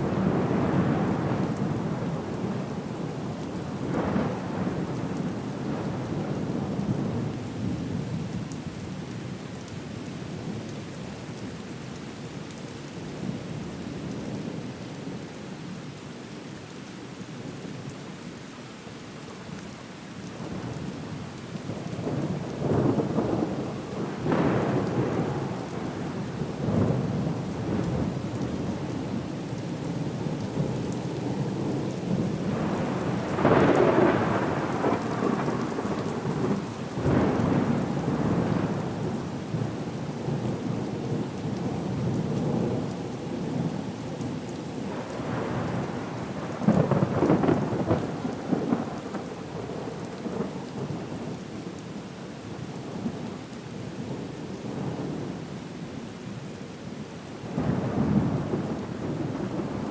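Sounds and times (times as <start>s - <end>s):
rain wash: 0.0s - 59.9s.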